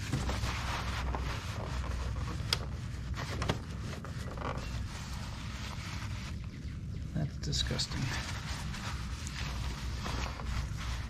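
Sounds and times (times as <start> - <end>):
paper towel wiping engine: 0.0 - 11.0.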